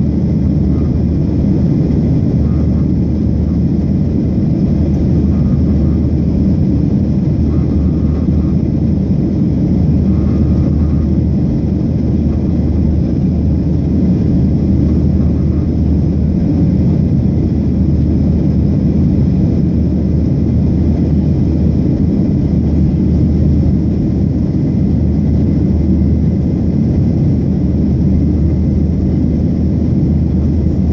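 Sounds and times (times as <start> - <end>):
jet engine rumble: 0.0 - 30.9.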